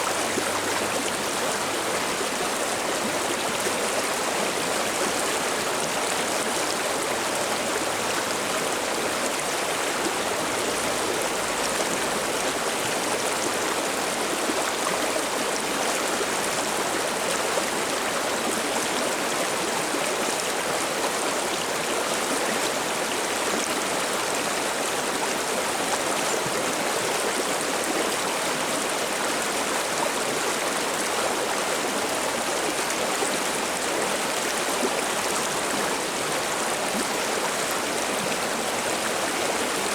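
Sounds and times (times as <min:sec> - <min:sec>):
river babbling over rocks: 0:00.0 - 0:39.9.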